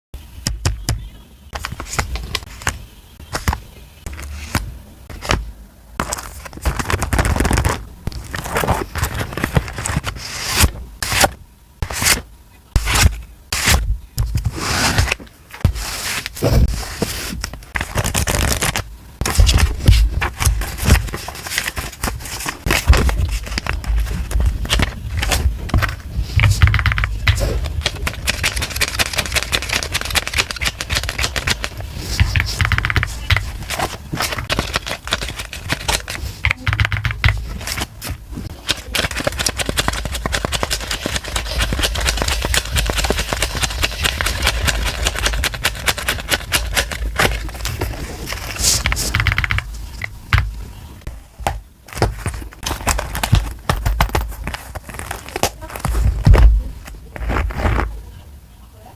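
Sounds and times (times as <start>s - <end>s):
paper rustling and scraping: 1.6s - 5.4s, 6.0s - 58.0s.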